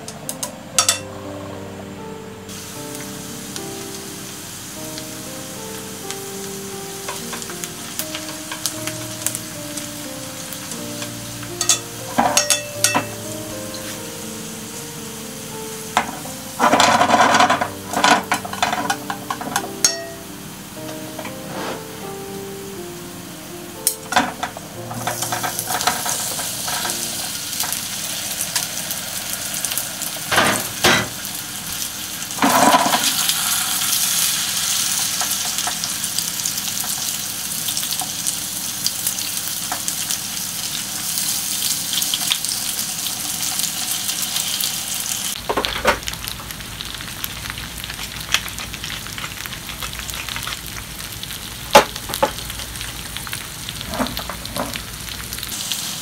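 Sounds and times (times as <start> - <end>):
potatoes sizzling in oil: 2.5 - 56.0.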